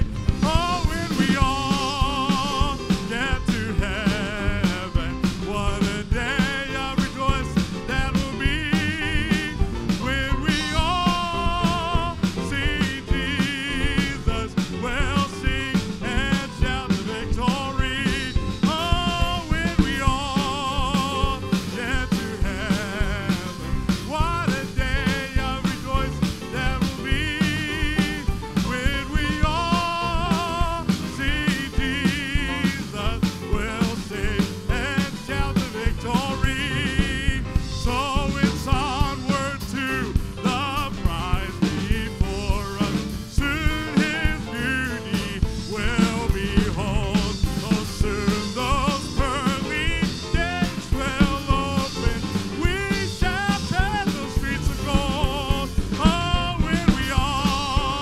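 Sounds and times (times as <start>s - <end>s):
live gospel band music: 0.0s - 58.0s
steady drum beat: 0.0s - 58.0s.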